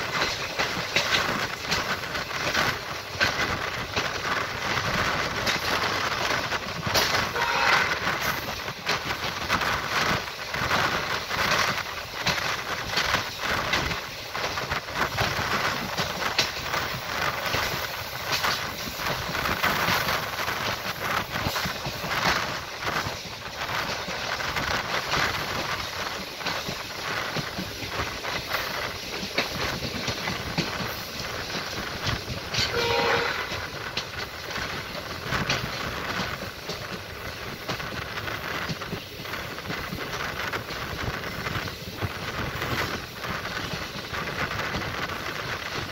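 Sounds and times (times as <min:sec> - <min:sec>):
train running noise: 0:00.0 - 0:45.9
wheels clicking and rattling: 0:00.0 - 0:45.9.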